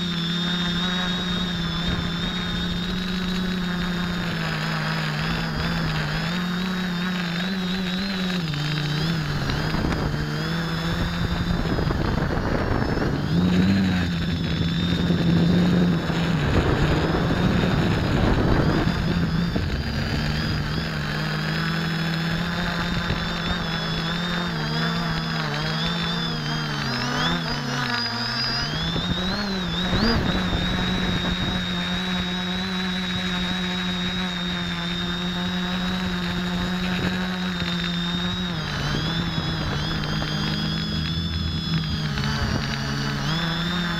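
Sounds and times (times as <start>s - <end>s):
quadcopter propellers whirring: 0.0s - 43.9s
wind noise: 0.0s - 43.9s.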